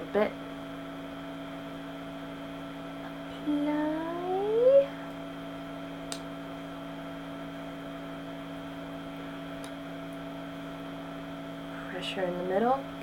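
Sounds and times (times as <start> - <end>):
small heater electrical hum: 0.0 - 13.0.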